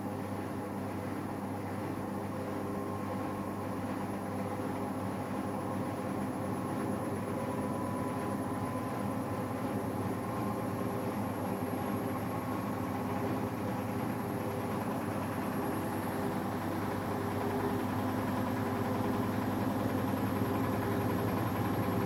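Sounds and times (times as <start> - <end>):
washing machine spin cycle: 0.0 - 22.0.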